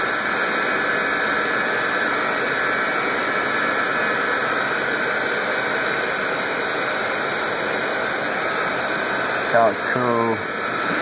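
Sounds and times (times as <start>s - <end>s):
rushing water pumps and aeration: 0.0s - 11.0s.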